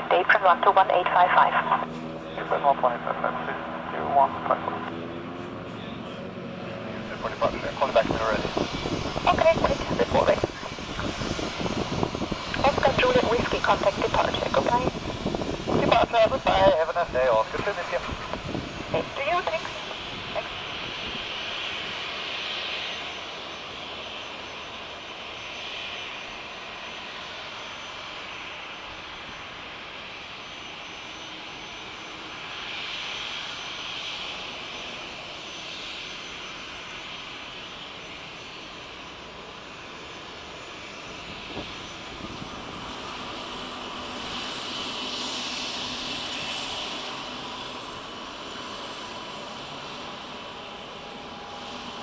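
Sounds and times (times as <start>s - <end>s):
jet engines whining at idle: 0.0s - 52.0s.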